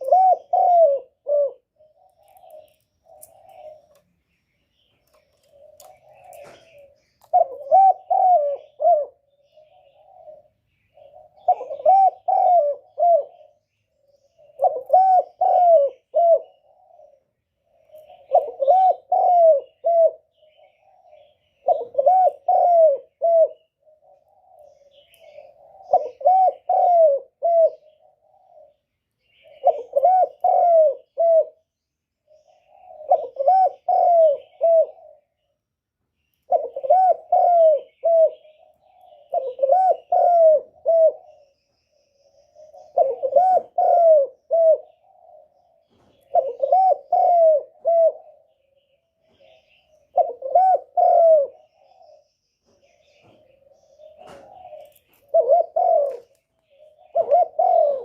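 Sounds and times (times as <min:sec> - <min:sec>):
dove cooing: 0:00.0 - 0:04.0, 0:04.8 - 0:35.6, 0:36.4 - 0:58.0.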